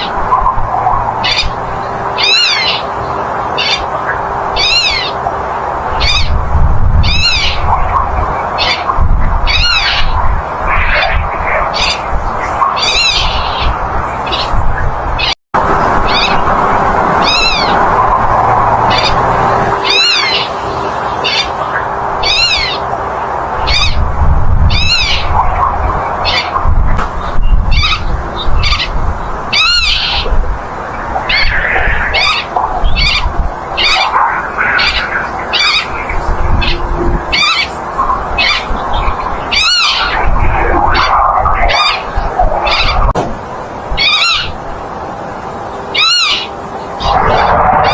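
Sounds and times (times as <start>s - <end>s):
bird calling: 0.0s - 15.4s, 16.0s - 16.5s, 17.2s - 43.2s, 43.9s - 44.7s, 45.6s - 47.9s.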